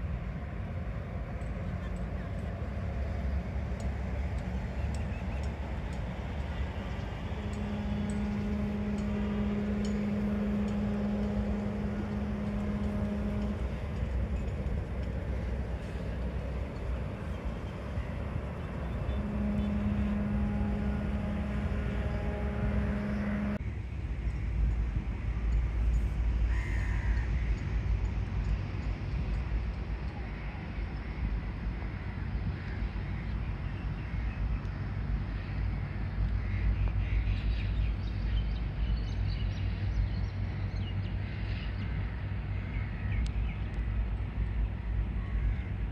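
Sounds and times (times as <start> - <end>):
low droning tone: 0.0 - 45.9
low rumble: 0.0 - 45.9.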